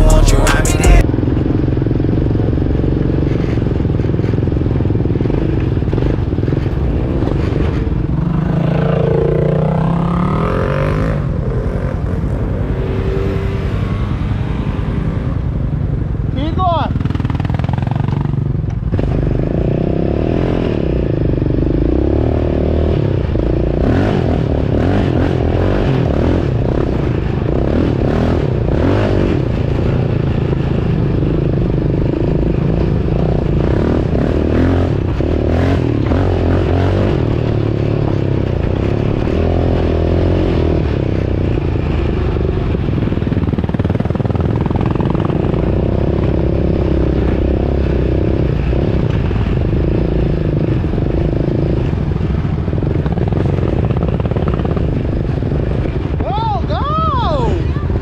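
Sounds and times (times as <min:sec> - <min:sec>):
atv engine running: 0:00.0 - 0:10.7, 0:14.2 - 0:58.0.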